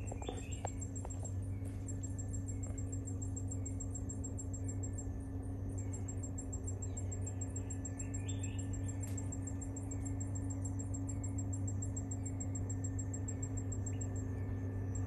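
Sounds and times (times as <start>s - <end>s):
high-pitched pulsing chirping: 0.0s - 15.0s
steady low hum: 0.0s - 15.0s.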